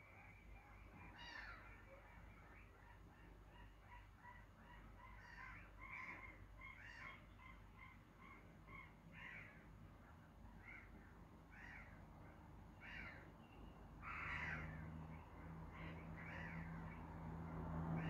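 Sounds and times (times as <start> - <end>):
harsh caw-like bird calls: 0.9 - 17.1.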